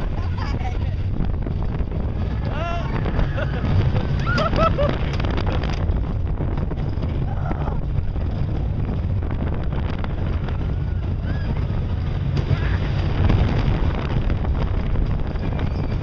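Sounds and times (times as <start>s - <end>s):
roller coaster rumbling on track: 0.0s - 16.0s
wind rushing over microphone: 0.0s - 16.0s.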